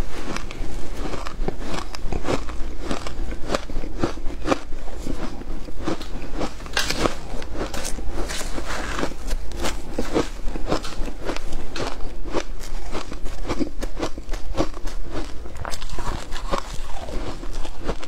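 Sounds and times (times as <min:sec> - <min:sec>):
shaved ice crunching when chewed: 0:00.0 - 0:18.0.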